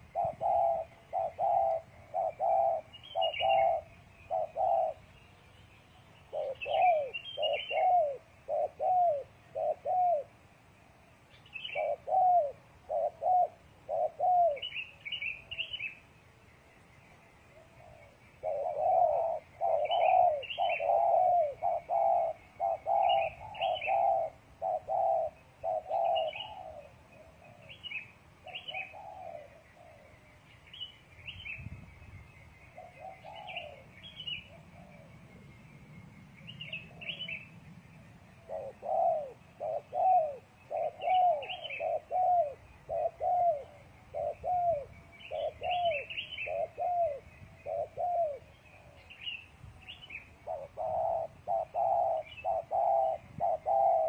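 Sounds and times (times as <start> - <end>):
dove cooing: 0.0 - 5.2, 6.3 - 10.6, 11.3 - 16.0, 17.5 - 30.3, 32.7 - 54.0
small birds chirping: 0.0 - 54.0.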